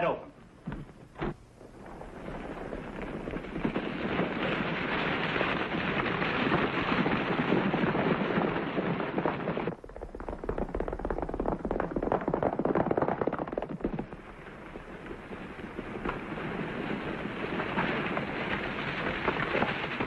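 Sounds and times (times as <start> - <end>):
galloping horses hoofbeats: 0.7 - 20.0.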